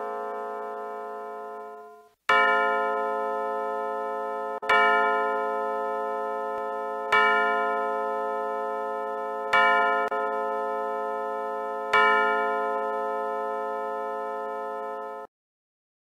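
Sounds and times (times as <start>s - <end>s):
deep clock bell chime: 0.0s - 15.3s.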